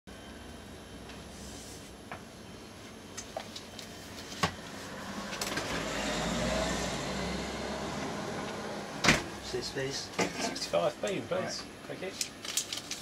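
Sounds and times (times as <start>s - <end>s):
fridge hum and hiss: 0.1s - 13.0s.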